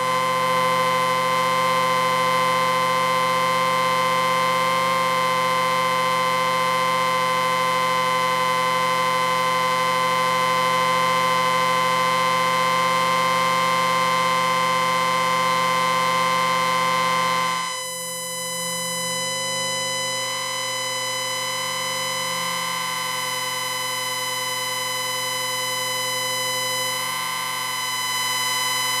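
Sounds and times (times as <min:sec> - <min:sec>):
amplifier whine: 0:00.0 - 0:29.0.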